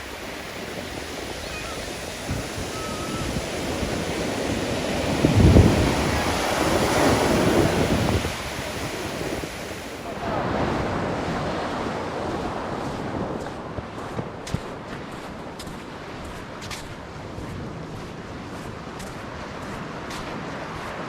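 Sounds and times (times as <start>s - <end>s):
surf breaking on beach: 0.0s - 21.0s
wind rumbling on microphone: 0.0s - 21.0s.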